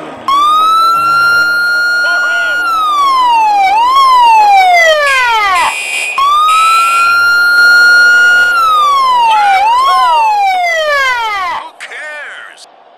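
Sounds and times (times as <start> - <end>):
electronic siren wailing: 0.2 - 11.6.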